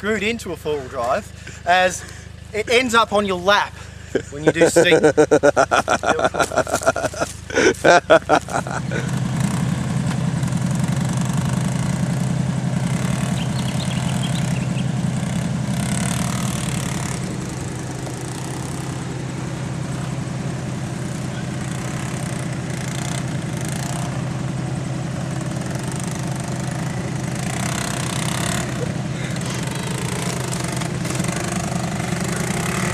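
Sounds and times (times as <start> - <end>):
car engine running: 0.0 - 32.9.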